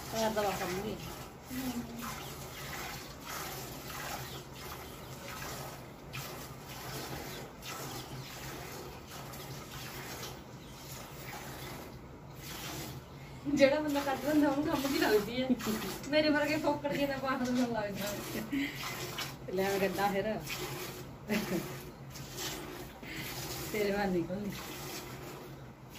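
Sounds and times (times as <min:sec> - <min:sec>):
milk squirting into bucket: 0:00.0 - 0:25.9.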